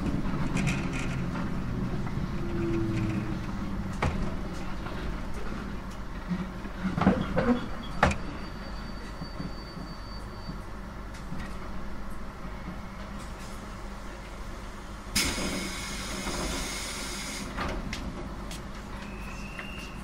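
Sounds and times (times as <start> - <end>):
train rumble and motor hum: 0.0 - 20.0.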